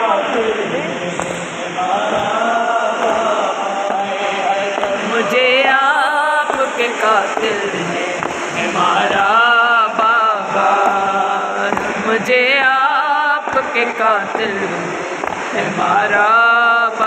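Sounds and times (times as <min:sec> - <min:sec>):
man singing long wavering lines: 0:00.0 - 0:17.0
men chanting a lament: 0:00.0 - 0:17.0.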